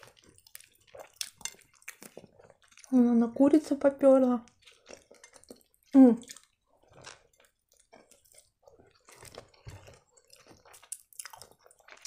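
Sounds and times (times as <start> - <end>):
person chewing food: 0.0 - 3.0, 4.4 - 12.0.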